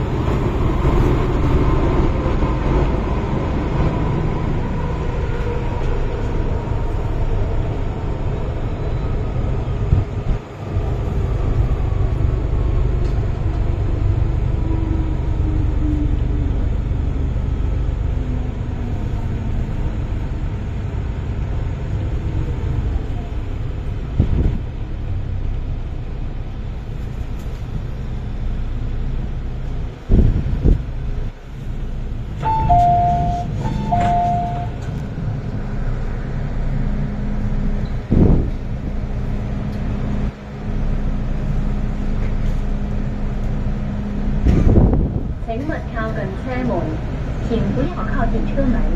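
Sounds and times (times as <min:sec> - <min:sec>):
train rumbling in tunnel: 0:00.0 - 0:48.9.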